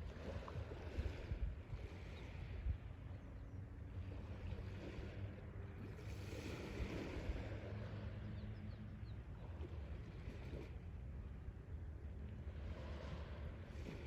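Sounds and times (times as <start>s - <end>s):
sea waves on shore: 0.0s - 2.8s, 3.8s - 8.6s, 9.2s - 14.0s.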